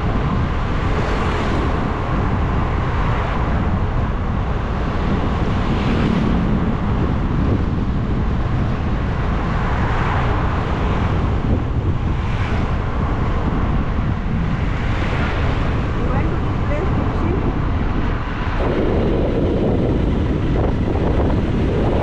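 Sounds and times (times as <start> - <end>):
road and vehicle noise: 0.0 - 22.0
wind buffeting microphone: 0.0 - 22.0.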